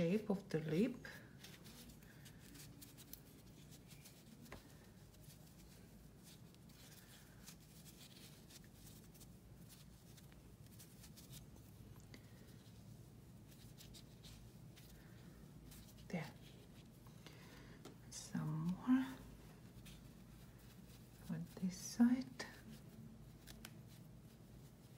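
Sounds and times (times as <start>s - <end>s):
hands handling stuffed crochet: 0.0s - 24.9s.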